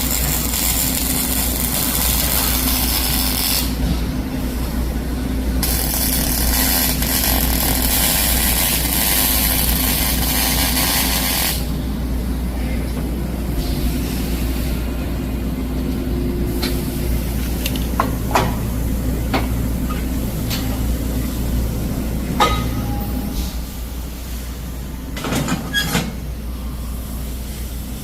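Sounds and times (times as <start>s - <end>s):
factory machinery hum: 0.0s - 28.0s.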